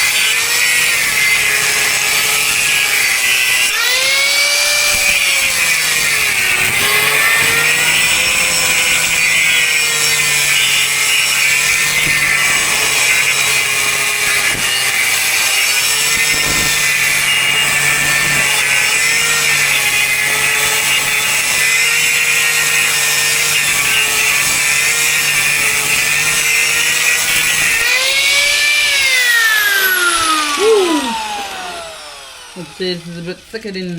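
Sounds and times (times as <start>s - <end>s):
angle grinder cutting steel: 0.0s - 33.9s.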